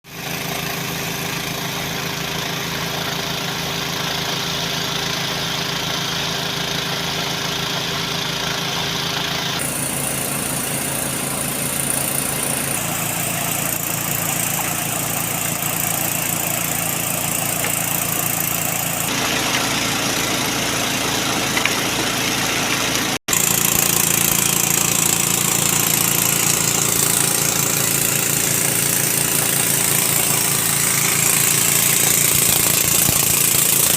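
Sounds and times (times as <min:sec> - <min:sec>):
small petrol engine running: 0:00.1 - 0:33.9.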